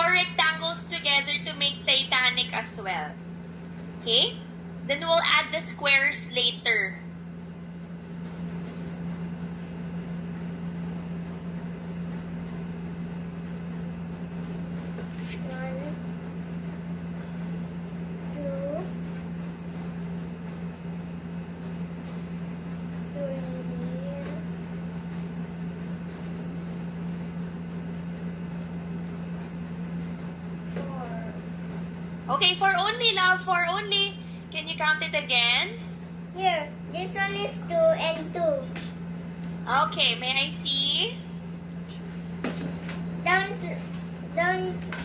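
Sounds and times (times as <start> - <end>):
low mechanical hum: 0.0 - 45.0.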